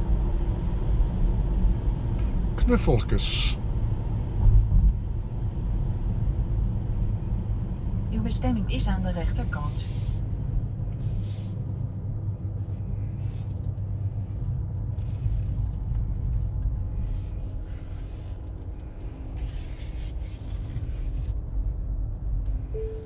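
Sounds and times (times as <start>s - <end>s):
road and tyre rumble inside car: 0.0s - 23.0s.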